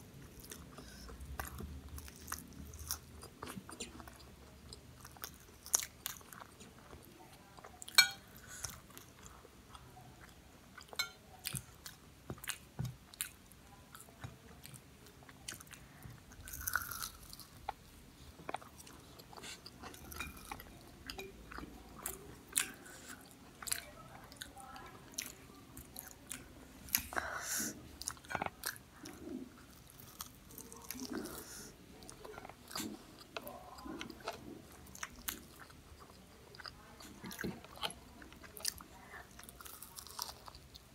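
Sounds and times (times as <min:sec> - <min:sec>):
chewing and crunching pastry: 0:00.0 - 0:40.9.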